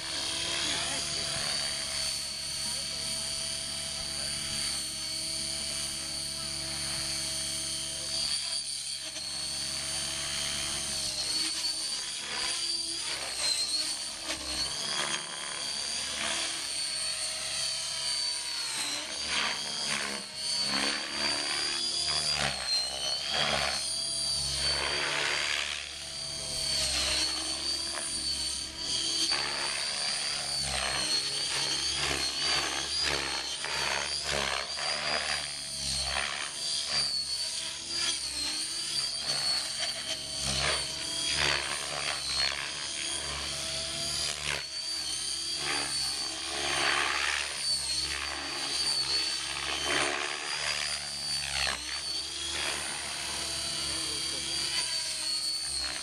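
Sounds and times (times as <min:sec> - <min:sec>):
rc helicopter motor whine: 0:00.0 - 0:56.0.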